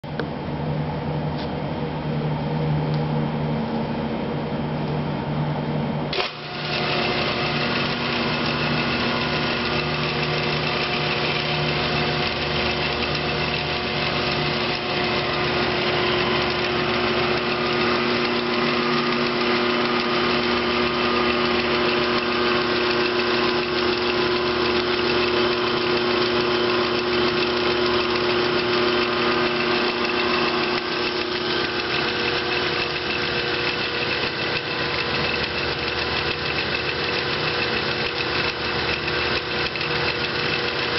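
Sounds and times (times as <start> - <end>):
power hammer motor humming: 6.1 - 40.9.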